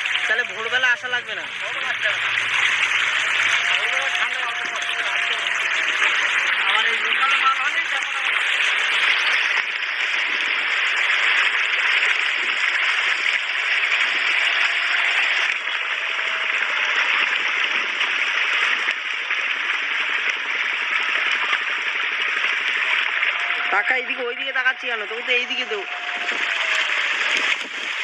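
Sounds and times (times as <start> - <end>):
fish splashing in water: 0.0 - 28.0.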